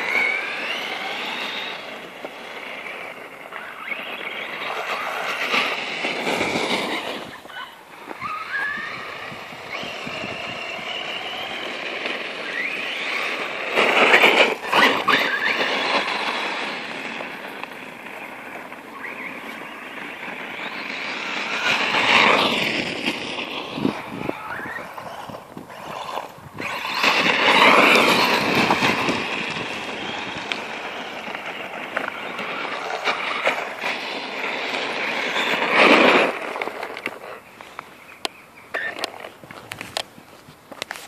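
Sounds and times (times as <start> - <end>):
electric motor whining: 0.0 - 37.8
tyres crunching over gravel: 0.0 - 41.0.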